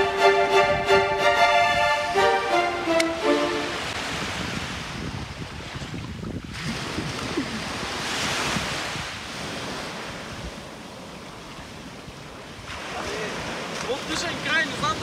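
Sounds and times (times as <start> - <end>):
wind buffeting microphone: 0.0 - 2.3, 3.1 - 15.0
small waves washing on sand: 2.9 - 15.0.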